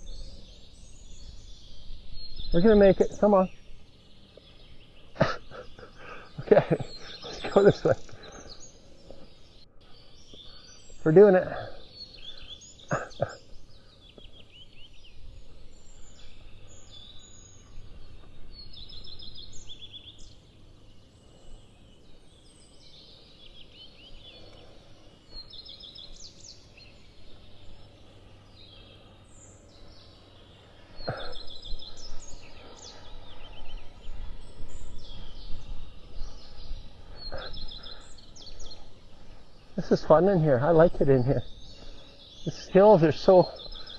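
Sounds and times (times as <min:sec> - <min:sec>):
songbirds trilling: 0:00.0 - 0:43.9.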